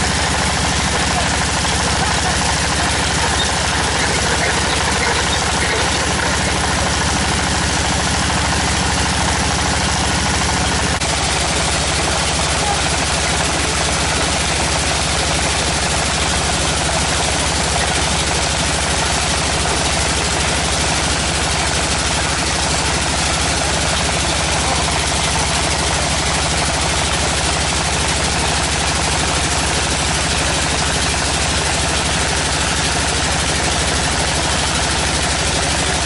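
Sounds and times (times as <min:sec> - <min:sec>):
drilling rig engine pulsing: 0:00.0 - 0:36.0.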